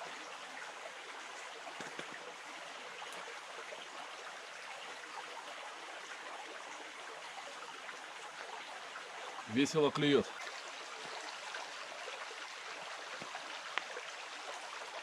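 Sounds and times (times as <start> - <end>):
river babbling over stones: 0.0 - 15.0.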